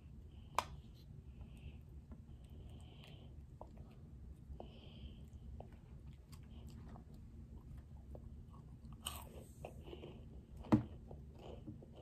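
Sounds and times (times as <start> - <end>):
child chewing and crunching: 2.3 - 12.0.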